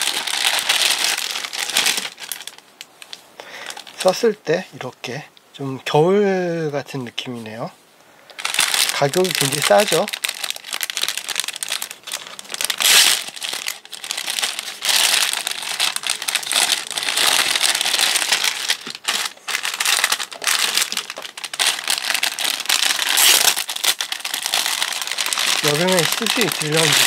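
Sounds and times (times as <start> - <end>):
plastic bags crinkling: 0.0 - 4.2, 8.3 - 27.0.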